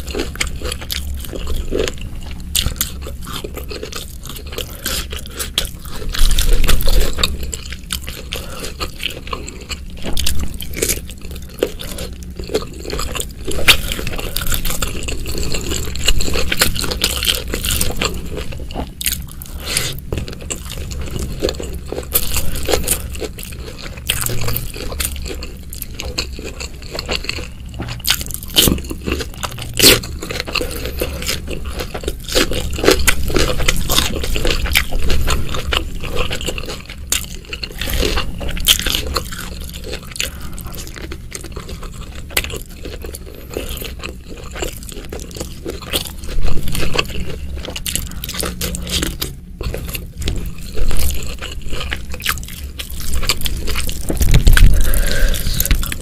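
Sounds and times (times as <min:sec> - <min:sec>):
person biting and chewing: 0:00.0 - 0:56.0.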